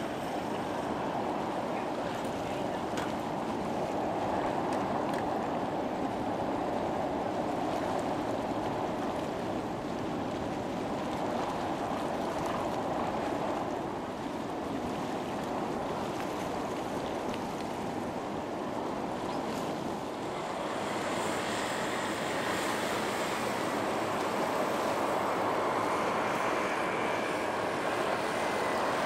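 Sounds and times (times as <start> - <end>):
seawater rushing: 0.0 - 29.0.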